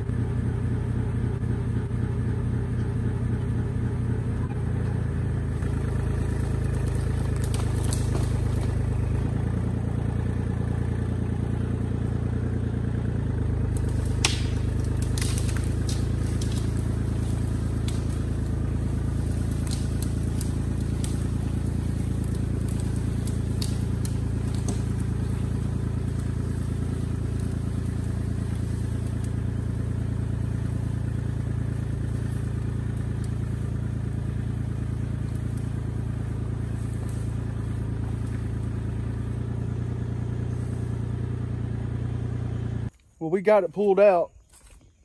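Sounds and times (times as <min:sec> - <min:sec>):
tractor diesel engine under load: 0:00.0 - 0:44.2
branches cracking and snapping: 0:05.5 - 0:12.2, 0:13.0 - 0:43.2, 0:44.4 - 0:45.0.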